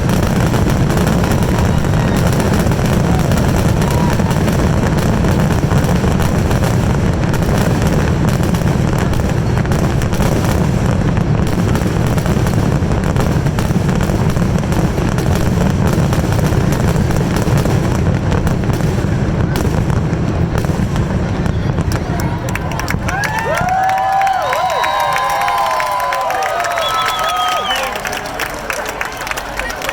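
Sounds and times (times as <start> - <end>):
fireworks barrage with deep booms: 0.0 - 26.0.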